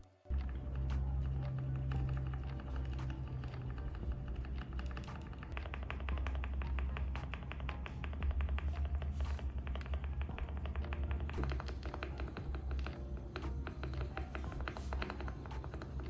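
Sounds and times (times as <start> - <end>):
background music with bass: 0.2 - 16.0.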